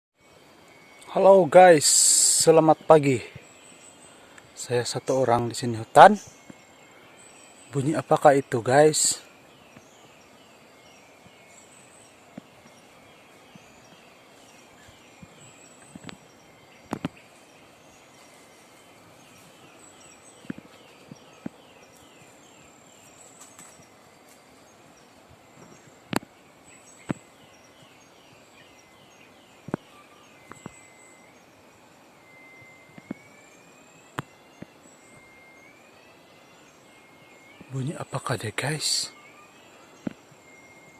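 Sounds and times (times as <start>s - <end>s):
faint high insect tone: 0.2s - 40.9s
animal chirping and whistling calls: 0.6s - 40.9s.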